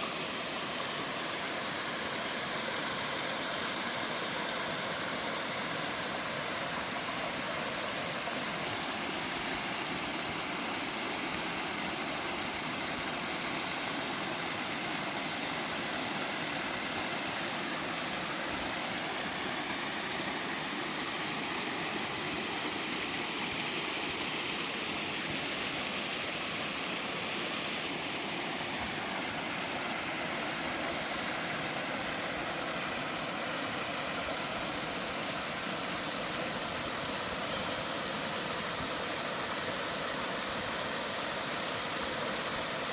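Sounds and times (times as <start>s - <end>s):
waterfall pouring into pool: 0.0s - 42.9s.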